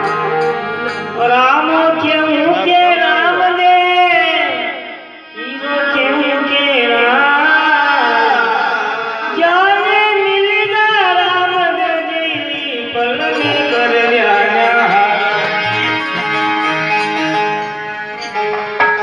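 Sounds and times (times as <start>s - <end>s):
man singing: 0.0s - 17.3s
harmonium chords: 0.0s - 19.0s.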